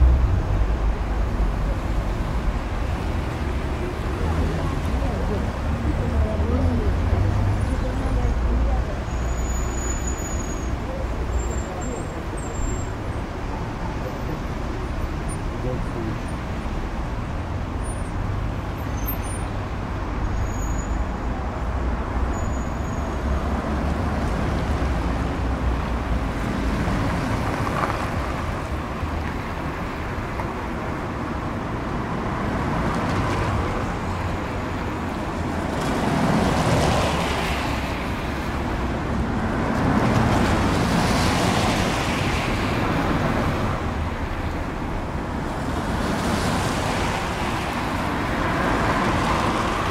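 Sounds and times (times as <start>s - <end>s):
city street traffic rumble: 0.0s - 49.9s.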